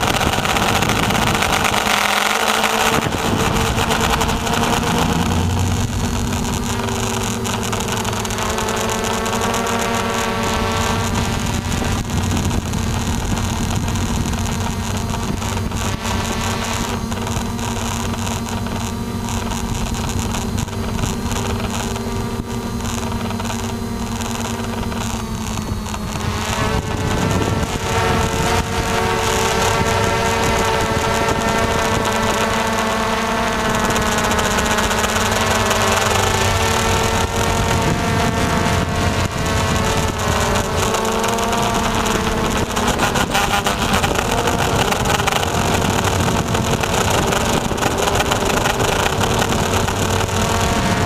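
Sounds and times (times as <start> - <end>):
drone motors humming: 0.0 - 51.0.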